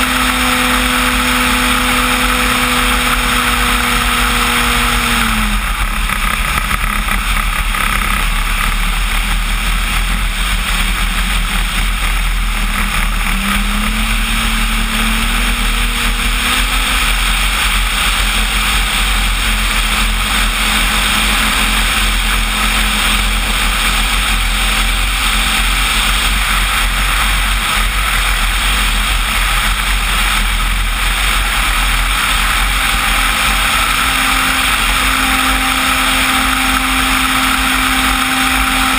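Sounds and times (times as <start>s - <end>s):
electric motor and propeller: 0.0s - 38.9s.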